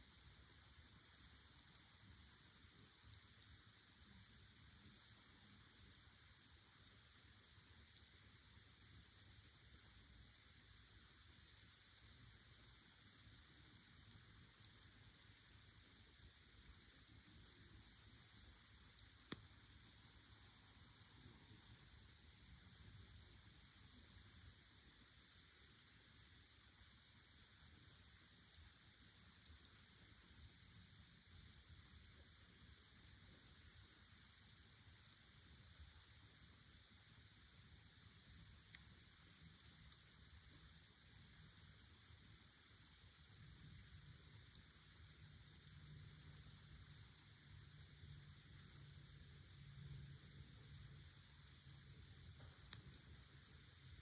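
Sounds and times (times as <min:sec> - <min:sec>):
crickets chirring: 0:09.8 - 0:54.0.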